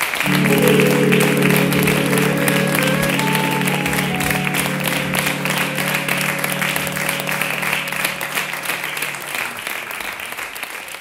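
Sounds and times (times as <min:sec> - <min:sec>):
sustained low chord: 0:00.0 - 0:09.8
audience applauding: 0:00.0 - 0:11.0.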